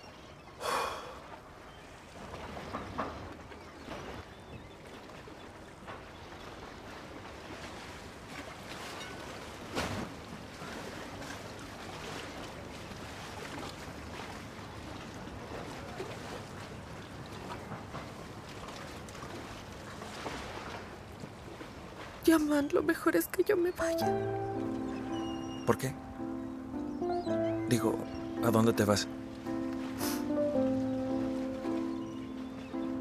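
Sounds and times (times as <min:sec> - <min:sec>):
sea water: 0:00.0 - 0:33.0
wind: 0:00.0 - 0:33.0.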